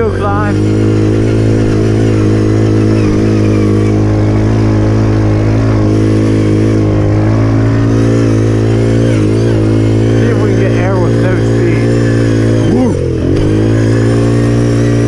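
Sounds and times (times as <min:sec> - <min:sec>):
pit bike engine running hard: 0:00.0 - 0:15.0.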